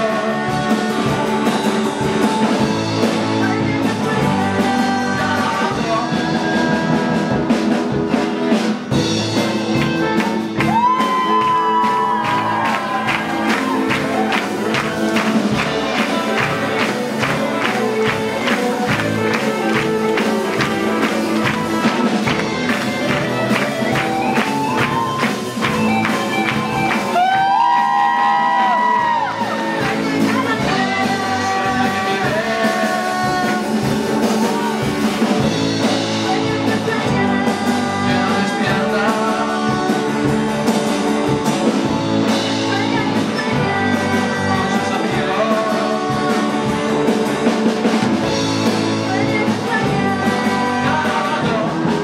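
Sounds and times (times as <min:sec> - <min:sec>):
person singing: 0:00.0 - 0:07.9, 0:10.4 - 0:41.4, 0:42.4 - 0:52.0
drum kit beat: 0:00.0 - 0:52.0
electric guitars: 0:00.0 - 0:52.0.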